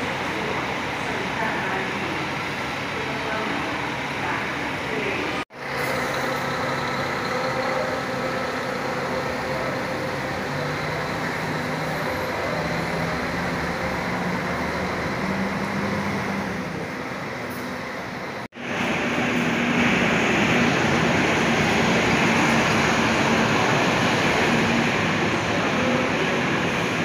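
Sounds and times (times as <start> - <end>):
bus diesel engine accelerating: 0.0 - 27.0
idling buses and traffic: 0.0 - 27.0.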